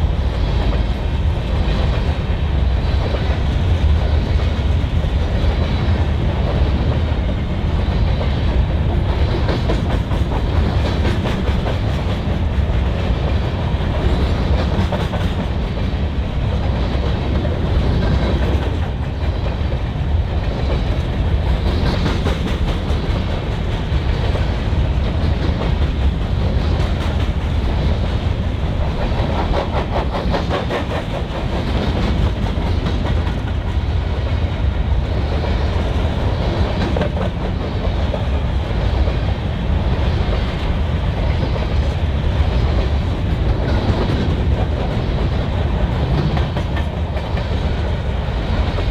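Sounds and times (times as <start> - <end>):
freight train rumbling past: 0.0 - 48.9
rhythmic wheel clicks on rails: 0.0 - 48.9.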